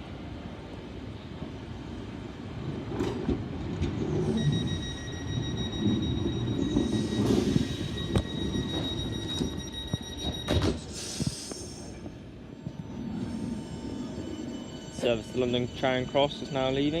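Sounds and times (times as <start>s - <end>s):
train running gear rumble: 0.4s - 17.0s.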